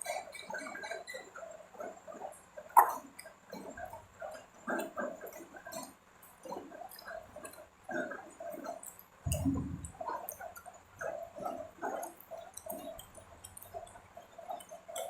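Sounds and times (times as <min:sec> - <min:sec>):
wet chewing and mouth sounds: 0:01.8 - 0:15.0.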